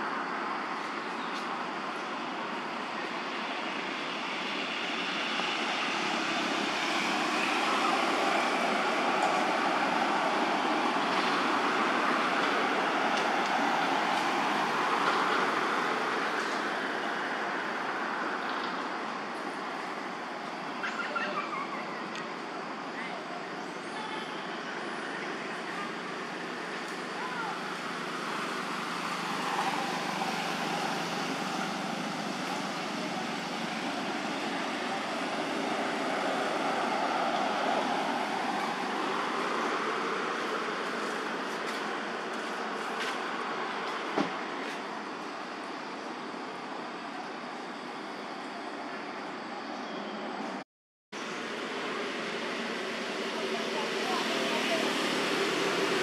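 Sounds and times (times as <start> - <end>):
road traffic rushing: 0.0 - 56.0.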